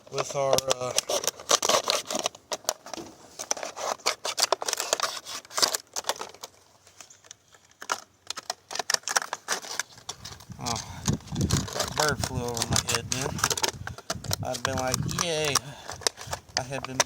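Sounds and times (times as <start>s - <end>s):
knife cutting plastic bottle: 0.2s - 6.6s, 7.8s - 17.0s.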